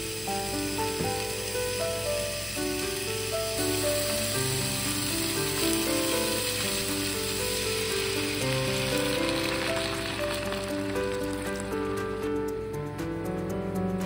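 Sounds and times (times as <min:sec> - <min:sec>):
meat sizzling in a frying pan: 0:00.0 - 0:12.4
background music with held notes: 0:00.0 - 0:14.0.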